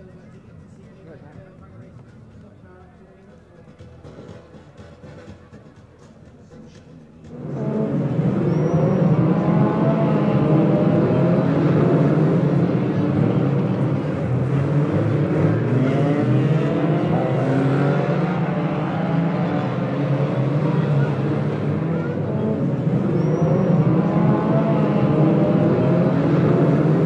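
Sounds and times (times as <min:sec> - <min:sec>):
racing car engines revving: 0:03.5 - 0:27.0.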